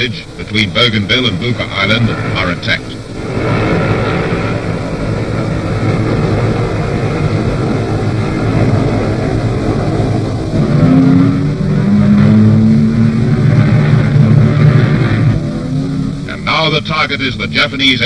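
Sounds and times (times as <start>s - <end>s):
old newsreel soundtrack noise: 0.0s - 18.0s
propeller aircraft engines droning: 0.0s - 18.0s.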